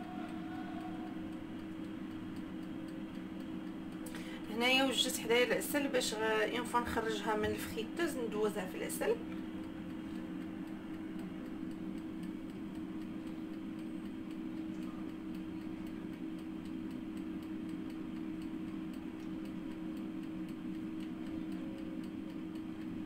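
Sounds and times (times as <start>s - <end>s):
air fryer fan humming: 0.0s - 23.0s
dial timer ticking: 0.0s - 23.0s.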